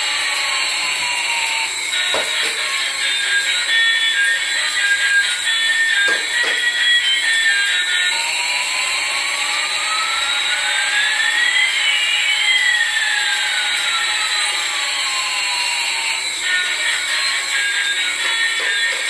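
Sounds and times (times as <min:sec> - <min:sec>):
toy jet engine sound effect: 0:00.0 - 0:19.0.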